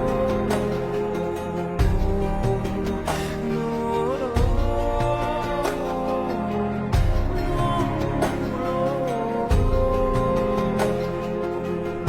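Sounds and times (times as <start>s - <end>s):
low bass: 0.0s - 12.0s
soft instrumental music: 0.0s - 12.0s.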